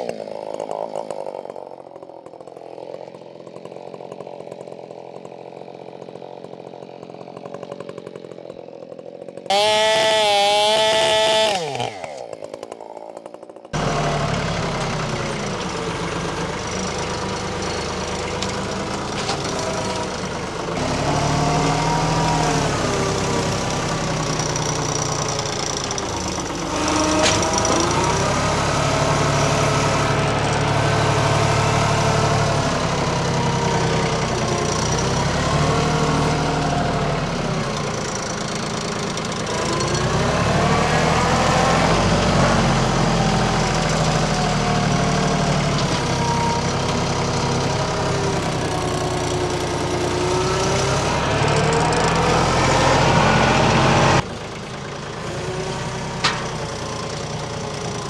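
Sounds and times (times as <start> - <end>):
chainsaw winding down: 0.0 - 58.0
tractor diesel engine running: 9.5 - 12.2, 13.8 - 58.0.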